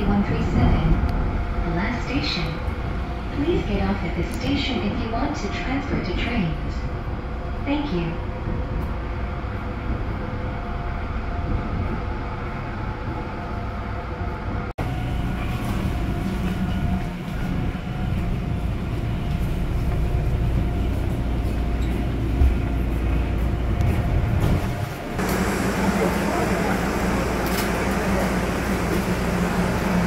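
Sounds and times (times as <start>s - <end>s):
subway train rumbling on rails: 0.0s - 30.0s.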